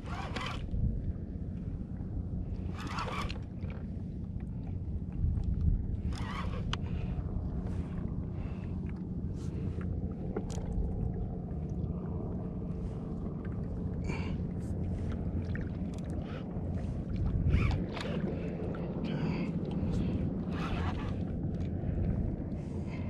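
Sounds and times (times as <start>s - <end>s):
low rumble: 0.0s - 23.0s
water lapping against hull: 0.0s - 23.0s.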